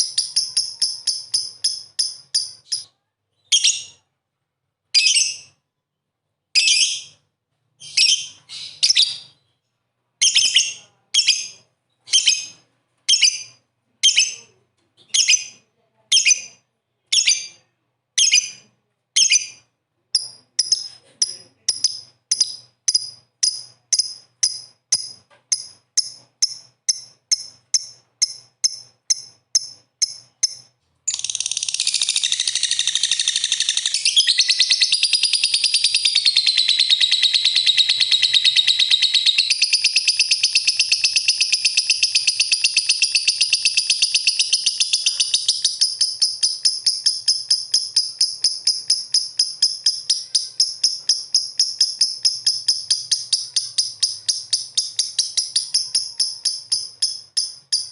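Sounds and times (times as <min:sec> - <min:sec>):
lovebird chirping and trilling: 0:00.0 - 0:04.0, 0:04.9 - 0:05.6, 0:06.6 - 0:09.6, 0:10.2 - 0:57.9.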